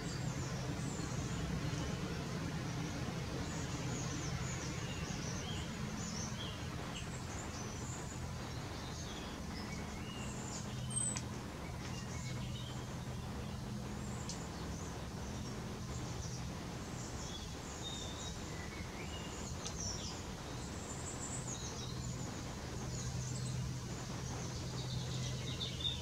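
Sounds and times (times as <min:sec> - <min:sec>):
songbirds chirping: 0:00.0 - 0:26.0
steady low hum: 0:00.0 - 0:26.0.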